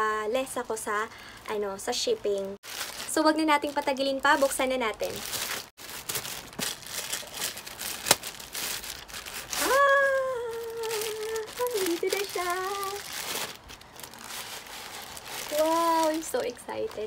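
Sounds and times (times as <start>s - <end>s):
plastic mailer crinkling: 2.6s - 17.0s.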